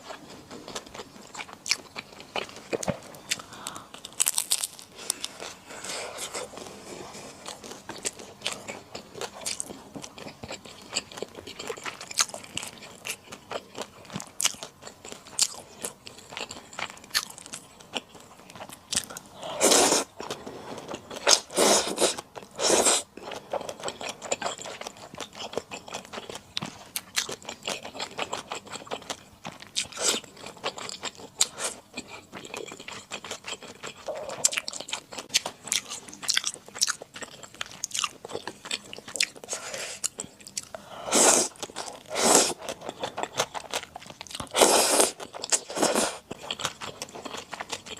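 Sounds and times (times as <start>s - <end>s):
wet chewing of noodles: 0.0s - 47.9s.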